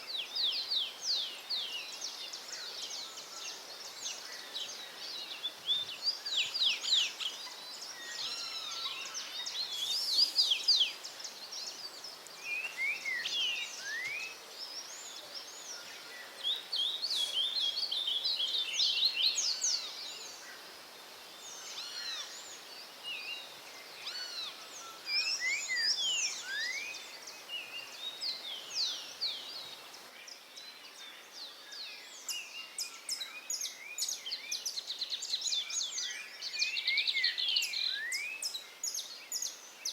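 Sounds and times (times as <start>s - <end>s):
songbirds chirping and whistling: 0.0s - 20.6s, 21.4s - 39.9s
faint steady hiss: 0.0s - 39.9s.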